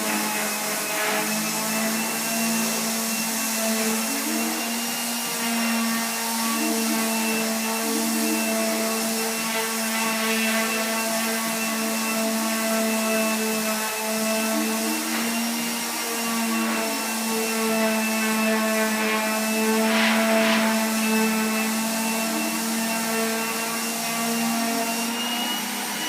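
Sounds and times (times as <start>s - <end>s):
electric sander on wood: 0.0s - 26.0s.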